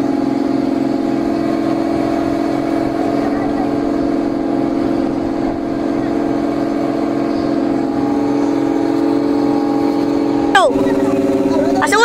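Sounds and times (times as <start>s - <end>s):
boat engine droning and throbbing: 0.0s - 12.0s.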